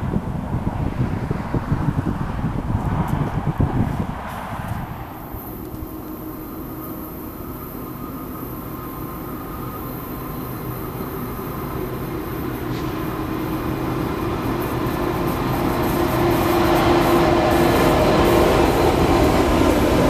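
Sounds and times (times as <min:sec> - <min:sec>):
freight train engine rumble: 0:00.0 - 0:20.0.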